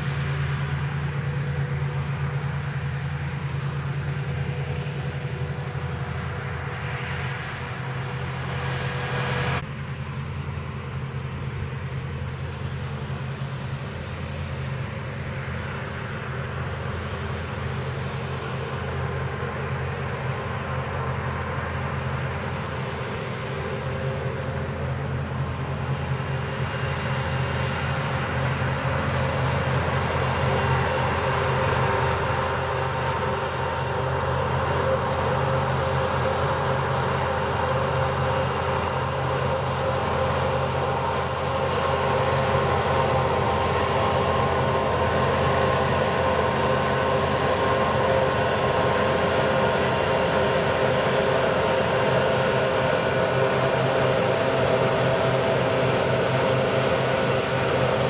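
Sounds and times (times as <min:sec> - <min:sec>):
combine harvester engine drone: 0:00.0 - 0:58.0
insects chirping: 0:00.0 - 0:58.0.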